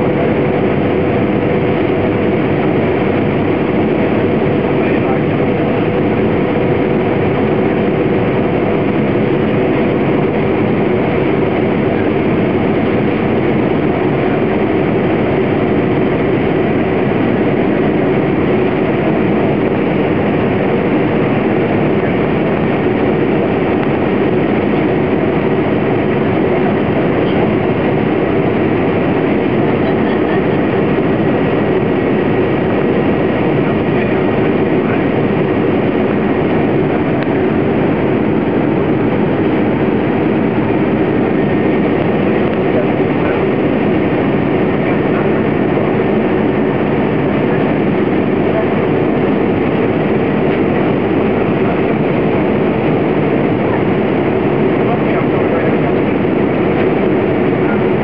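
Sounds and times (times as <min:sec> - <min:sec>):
jet engine and airflow rush: 0:00.0 - 0:58.0.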